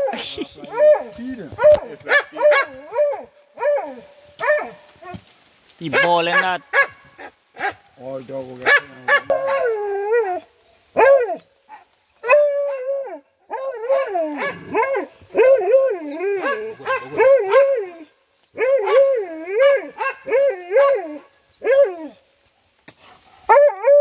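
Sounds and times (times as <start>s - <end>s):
hunting dogs baying: 0.0s - 5.2s, 5.9s - 7.9s, 8.6s - 22.2s.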